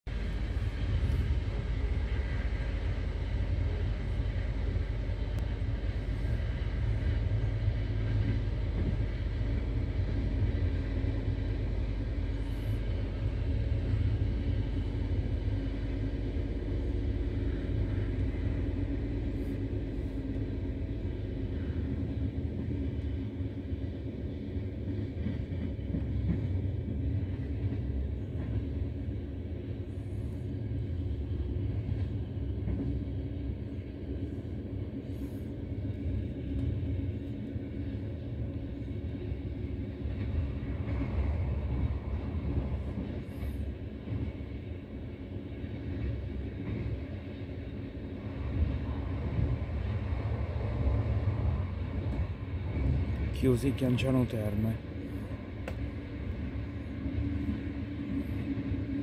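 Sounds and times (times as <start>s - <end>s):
train coach rumbling: 0.0s - 59.0s.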